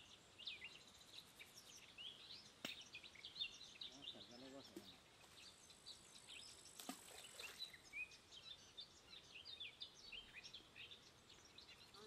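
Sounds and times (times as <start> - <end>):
birds chirping and twittering: 0.0 - 12.0.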